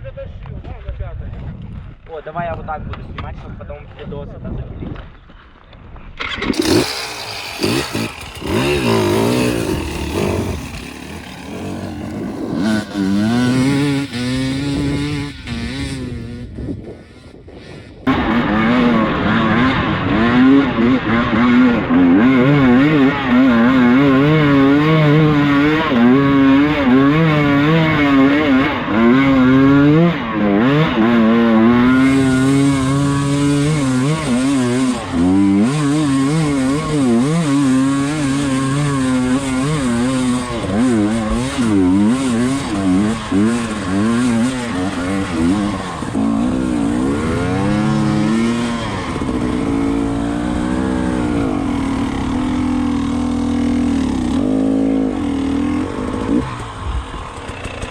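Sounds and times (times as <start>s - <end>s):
motorcycle engine revving: 6.2s - 57.9s.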